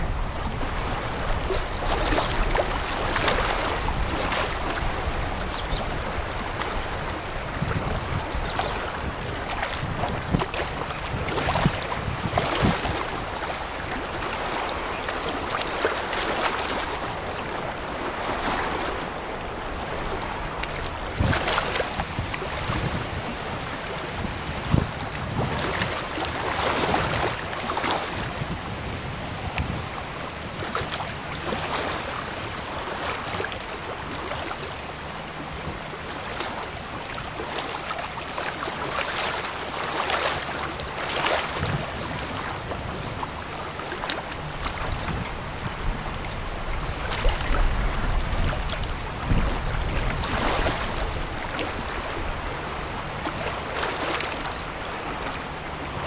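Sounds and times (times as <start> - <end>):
wind on microphone: 0.0 - 37.4, 40.4 - 56.0
water splashing from bow wave: 0.0 - 56.0.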